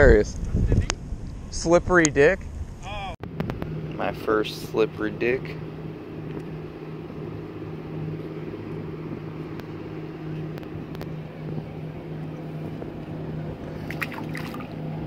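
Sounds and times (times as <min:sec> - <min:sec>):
low engine drone: 0:02.6 - 0:15.0.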